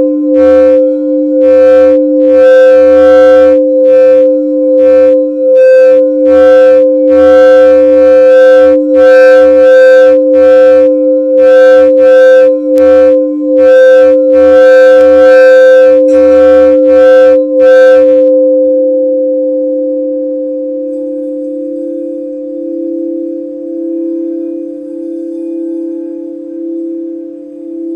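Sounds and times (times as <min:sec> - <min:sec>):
singing bowls ringing: 0:00.0 - 0:27.9.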